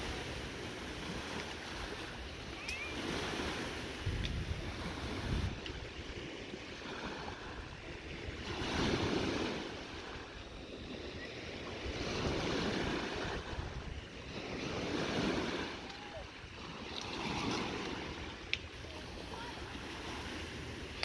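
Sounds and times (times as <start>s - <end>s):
lake waves washing onto shore: 0.0s - 21.0s
wind on microphone: 0.0s - 21.0s.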